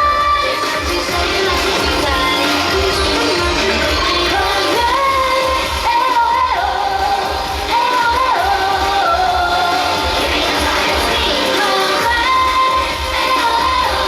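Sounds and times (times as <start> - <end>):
pulsing bass beat: 0.0 - 14.0
woman singing: 0.0 - 14.0.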